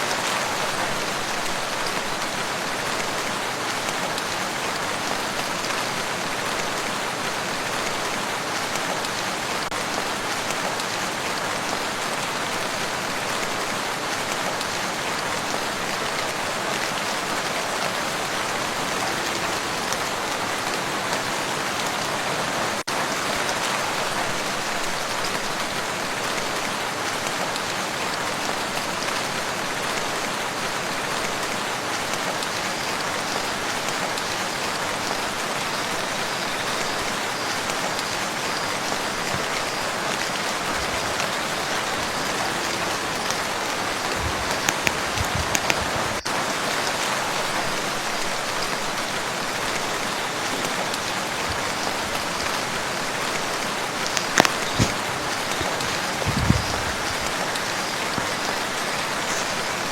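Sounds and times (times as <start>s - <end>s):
rain falling on a lake: 0.0s - 59.9s.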